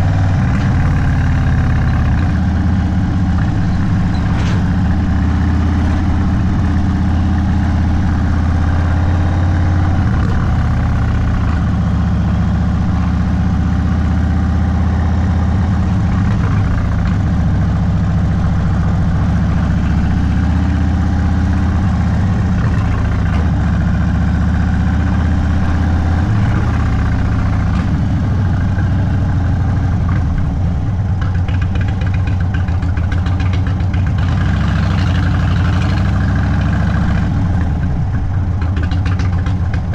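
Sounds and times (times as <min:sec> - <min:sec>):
motorcycle engine running at low revs: 0:00.0 - 0:39.9.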